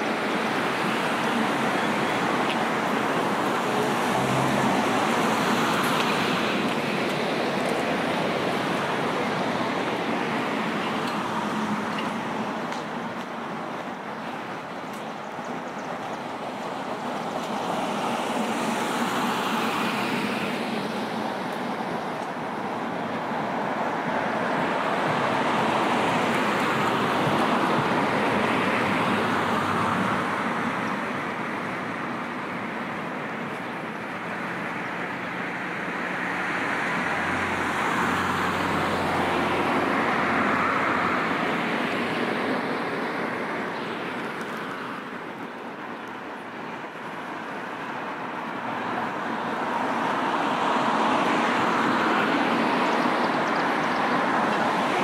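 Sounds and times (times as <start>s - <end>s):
cars passing: 0.0s - 55.0s.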